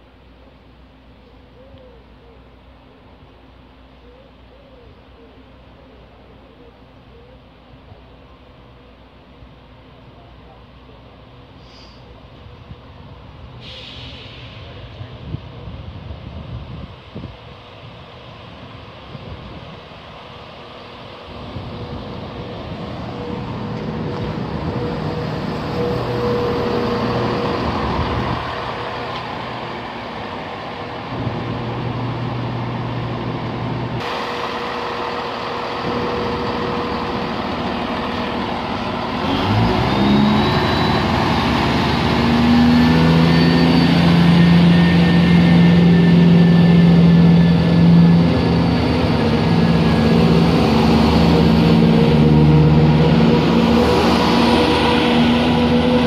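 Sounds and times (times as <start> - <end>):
diesel train engines idling: 0.0 - 56.0
diesel train engines revving: 0.0 - 56.0.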